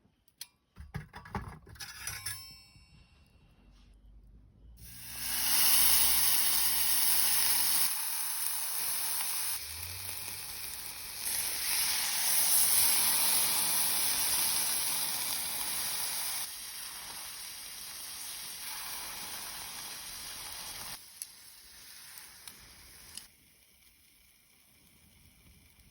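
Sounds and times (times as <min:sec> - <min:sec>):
steak sizzling on grill: 0:04.8 - 0:25.9.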